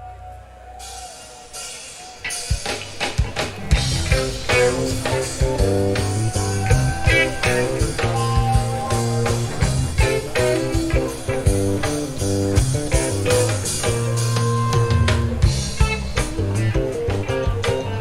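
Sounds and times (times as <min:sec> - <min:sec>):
bass: 0:00.0 - 0:18.0
electric guitar lines: 0:00.0 - 0:18.0
drum kit: 0:00.8 - 0:18.0.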